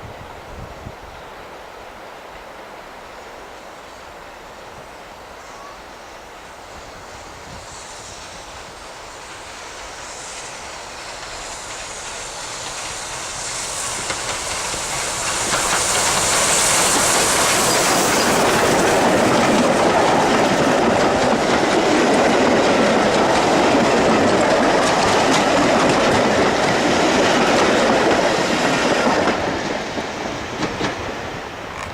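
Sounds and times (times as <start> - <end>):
steam train passing: 0.0 - 31.9.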